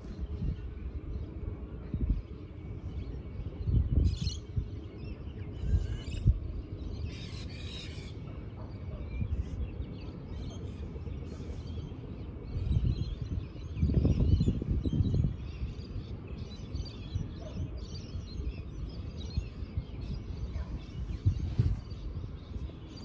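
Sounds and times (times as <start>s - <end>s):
wind rumble on microphone: 0.0s - 23.0s
birds calling: 2.2s - 23.0s.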